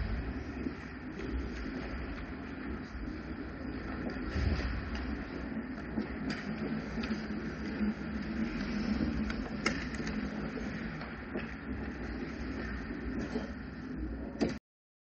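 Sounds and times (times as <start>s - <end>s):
skates scraping on ice: 0.0s - 14.2s.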